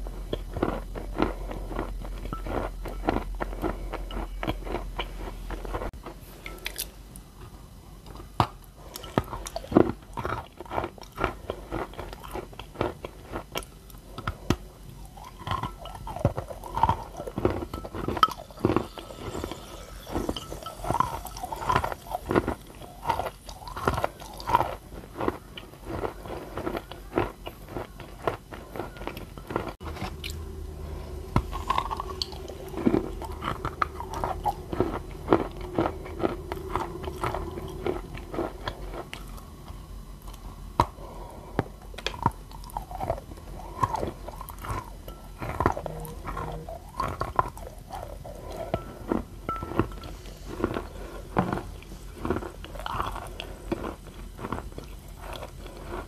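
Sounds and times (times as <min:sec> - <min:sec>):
chewing with wet crunches: 0:00.0 - 0:06.9, 0:08.4 - 0:56.0.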